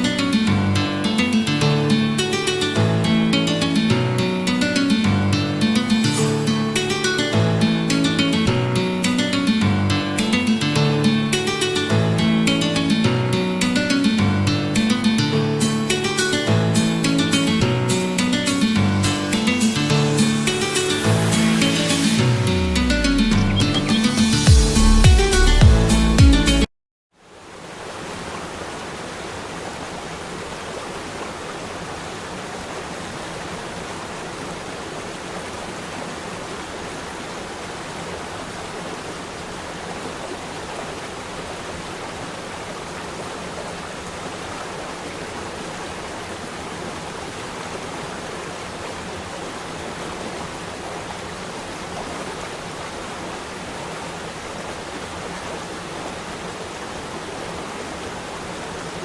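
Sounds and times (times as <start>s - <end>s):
waterfall rushing: 0.0s - 26.6s, 27.3s - 59.0s.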